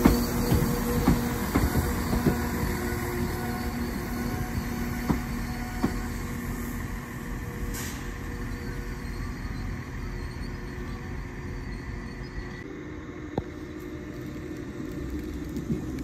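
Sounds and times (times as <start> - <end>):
diesel train rumbling: 0.0 - 16.0
electric train rolling in: 0.0 - 16.0.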